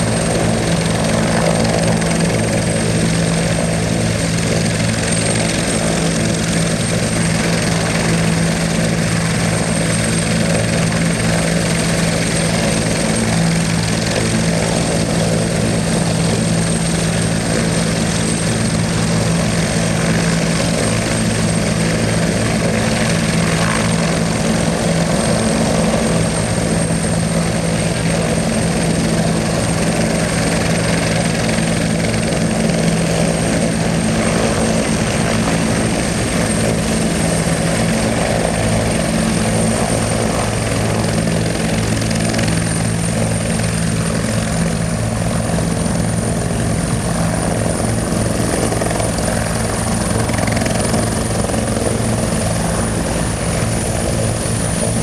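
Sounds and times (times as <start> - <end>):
helicopter engines and rotor drone: 0.0 - 55.0.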